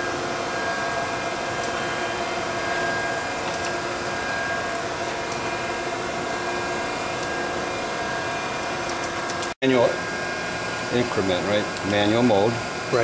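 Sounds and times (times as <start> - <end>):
surface grinder whirring hum: 0.0 - 13.0.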